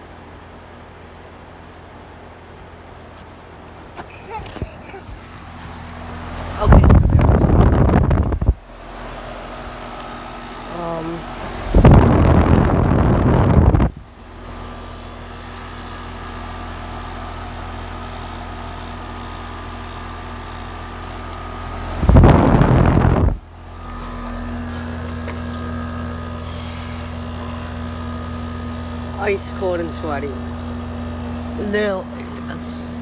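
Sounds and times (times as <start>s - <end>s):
heat pump compressor and fan humming: 0.0s - 33.0s.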